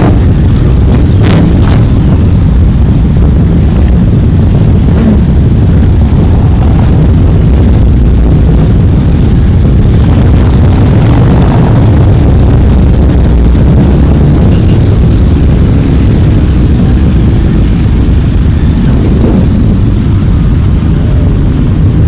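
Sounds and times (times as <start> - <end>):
many motorcycle engines rumbling: 0.0 - 22.0.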